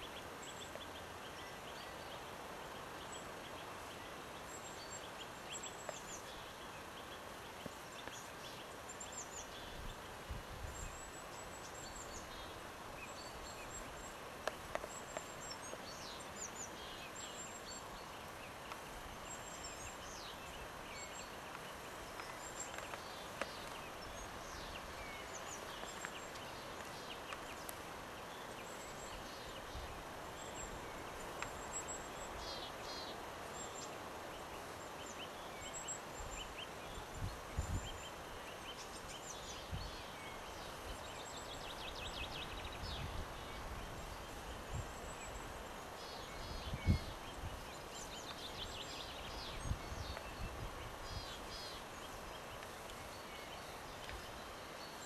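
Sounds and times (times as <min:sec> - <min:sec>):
small birds chirping and trilling: 0:00.0 - 0:55.0
steady background hiss: 0:00.0 - 0:55.0.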